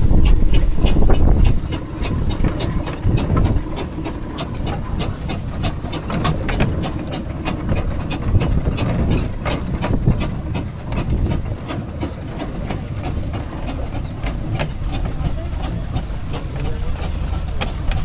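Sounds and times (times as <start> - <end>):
steam engine rumble: 0.0 - 18.0.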